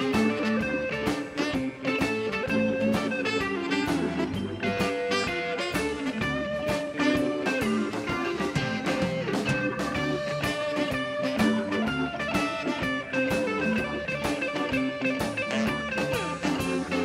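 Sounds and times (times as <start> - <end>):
drum kit: 0.0 - 17.0
electric guitar lead: 0.0 - 17.0.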